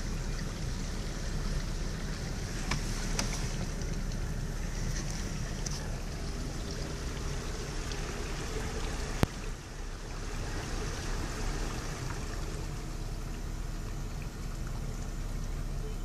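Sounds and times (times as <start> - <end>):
vehicle engine running low: 0.0 - 16.0
water sloshing against vehicle: 0.0 - 16.0.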